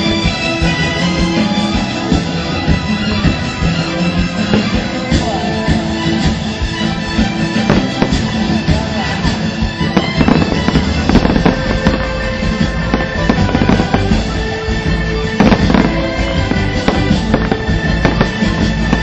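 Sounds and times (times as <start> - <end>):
fireworks booming and crackling: 0.0 - 19.0
music playing: 0.0 - 19.0.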